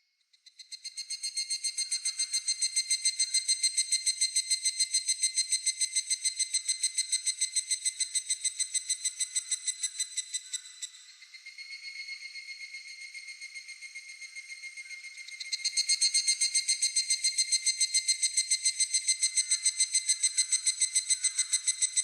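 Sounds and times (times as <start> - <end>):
cicada calling: 1.8 - 22.0.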